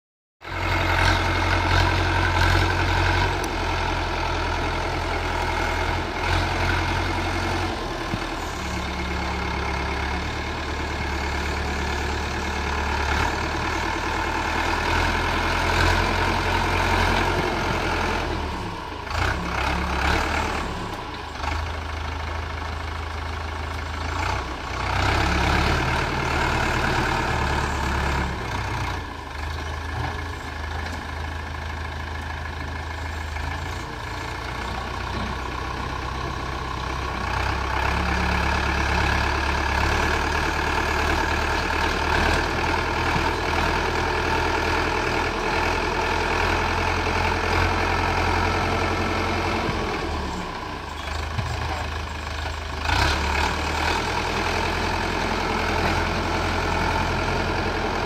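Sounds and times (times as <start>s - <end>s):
tractor diesel engine under load: 0.4s - 58.0s.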